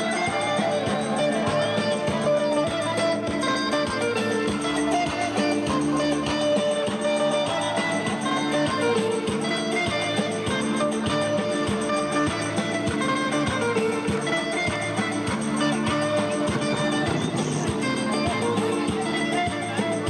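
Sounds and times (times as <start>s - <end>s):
instrumental dance music: 0.0s - 20.0s.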